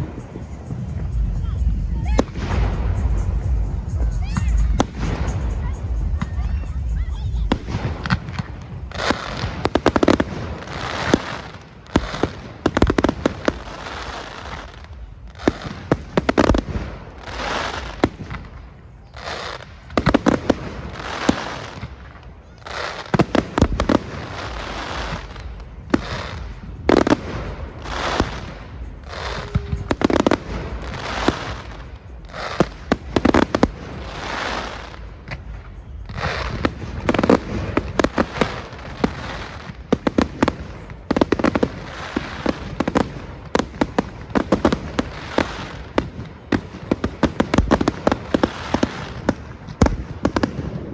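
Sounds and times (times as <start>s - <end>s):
fireworks bangs: 0.0s - 50.9s
fireworks crackling bursts: 0.0s - 50.9s.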